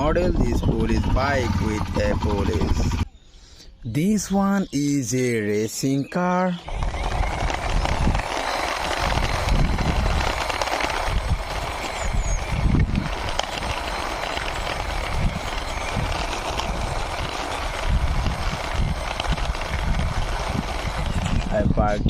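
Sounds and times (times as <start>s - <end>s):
toy car wheels rolling and scraping: 0.0s - 3.0s, 6.6s - 22.0s.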